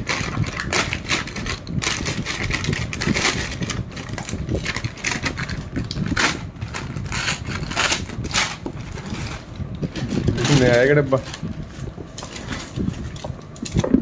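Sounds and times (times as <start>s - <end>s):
packaging rustling and crinkling: 0.0s - 14.0s
steady low rumble: 0.0s - 14.0s.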